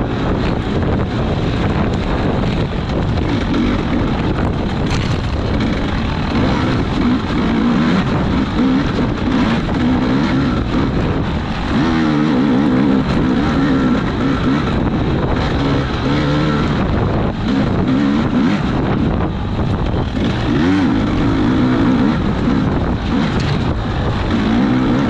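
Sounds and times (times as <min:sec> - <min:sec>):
off-road race engine revving: 0:00.0 - 0:25.0
wind buffeting microphone: 0:00.0 - 0:25.0.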